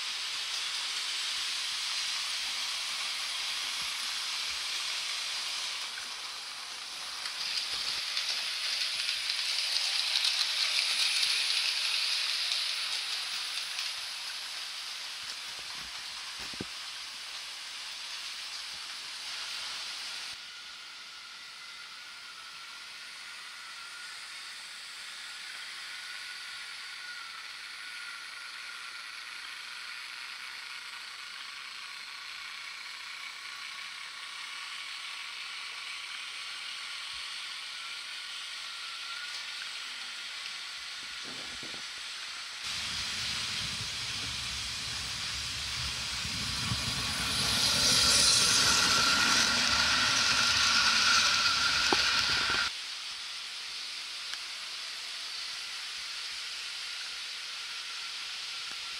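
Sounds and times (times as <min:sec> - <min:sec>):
faint wavering motor whine: 0:00.0 - 0:58.9
model train wheels hissing: 0:00.0 - 0:58.9.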